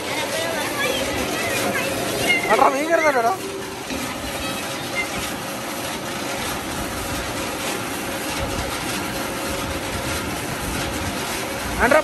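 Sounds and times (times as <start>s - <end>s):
water gushing and churning: 0.0s - 12.0s.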